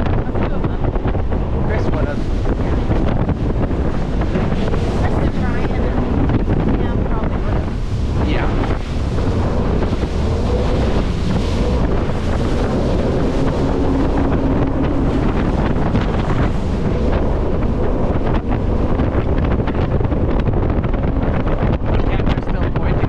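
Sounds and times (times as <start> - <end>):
boat engine drone: 0.0 - 23.0
water rushing: 0.0 - 23.0
wind buffeting microphone: 0.0 - 23.0.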